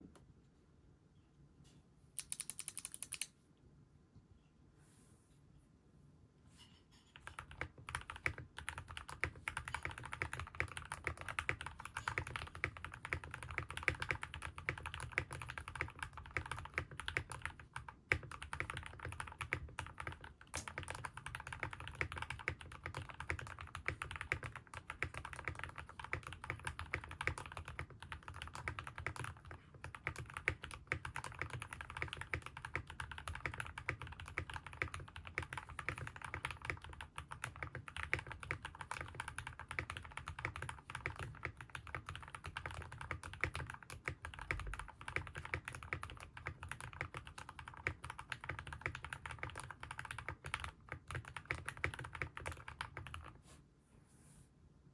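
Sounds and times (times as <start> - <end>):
typing on mechanical keyboard: 2.2 - 3.3, 7.2 - 53.4.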